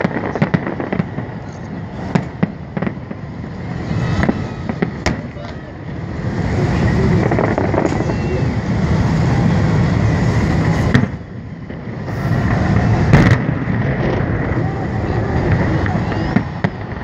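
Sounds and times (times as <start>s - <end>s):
fireworks bursts: 0.0s - 17.0s
loud firework bangs: 0.0s - 17.0s.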